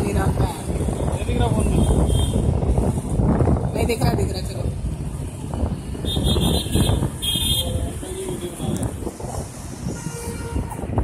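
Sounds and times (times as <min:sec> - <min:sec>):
engine and road noise rumble: 0:00.0 - 0:11.0
wind on microphone: 0:00.0 - 0:11.0.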